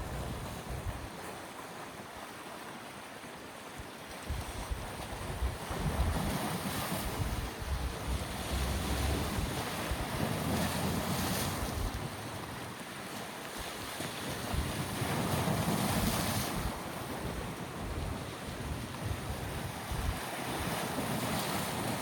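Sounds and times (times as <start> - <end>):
wind buffeting microphone: 0.0 - 1.2, 4.2 - 12.9, 13.6 - 22.0
waves washing ashore: 0.0 - 22.0.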